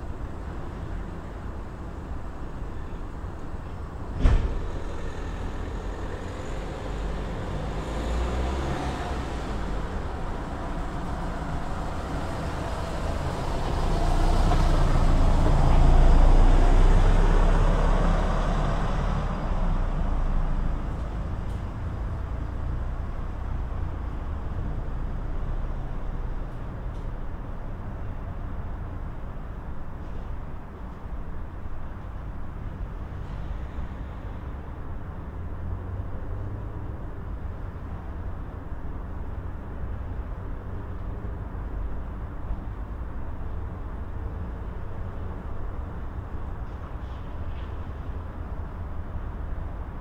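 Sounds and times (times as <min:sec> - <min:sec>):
road traffic rumbling: 0:00.0 - 0:50.0.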